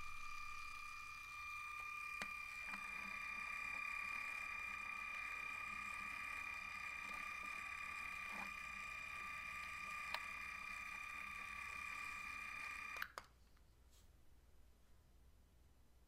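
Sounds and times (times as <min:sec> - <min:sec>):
high-pitched motor whine: 0:00.0 - 0:13.1.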